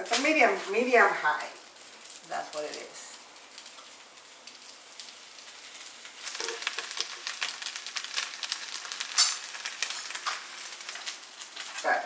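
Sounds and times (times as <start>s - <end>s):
fish sizzling on a griddle: 0.0s - 12.0s.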